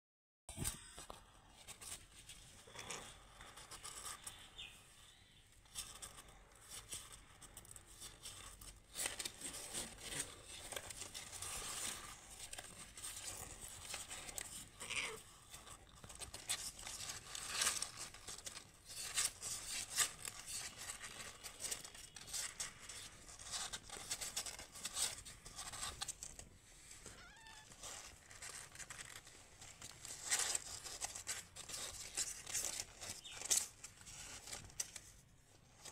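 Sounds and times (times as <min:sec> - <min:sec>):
kittens rustling on cardboard: 0:01.0 - 0:04.7, 0:05.5 - 0:35.9.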